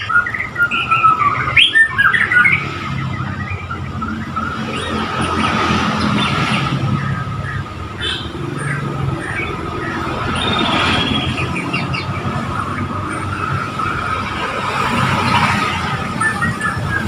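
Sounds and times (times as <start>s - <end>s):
bird calls: 0.0s - 17.0s
road traffic noise: 0.0s - 17.0s.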